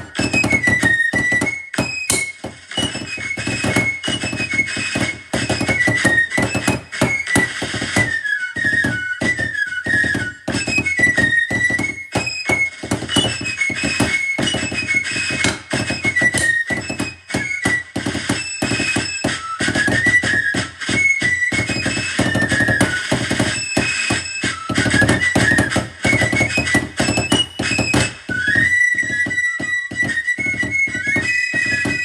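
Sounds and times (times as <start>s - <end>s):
snare drum rudimental strokes: 0.0s - 32.0s.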